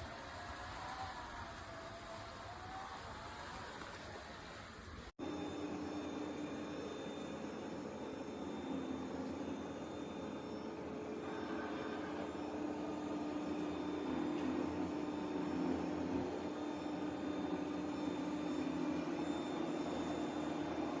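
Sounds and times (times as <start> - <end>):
robot vacuum humming: 0.0 - 21.0.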